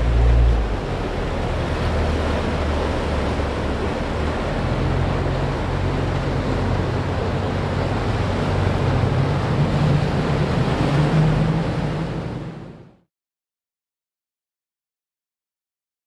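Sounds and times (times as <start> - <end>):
boat engines droning: 0.0 - 13.0
surf wash: 0.0 - 13.1
wind: 0.0 - 13.1.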